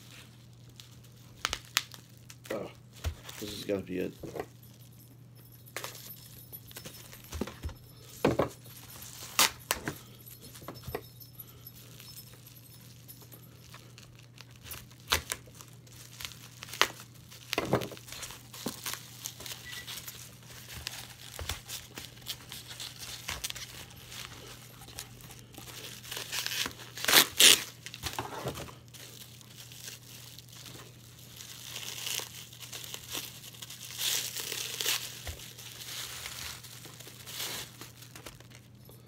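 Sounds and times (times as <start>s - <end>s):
packing material crinkling: 0.0s - 5.0s, 5.8s - 10.9s, 11.7s - 39.0s.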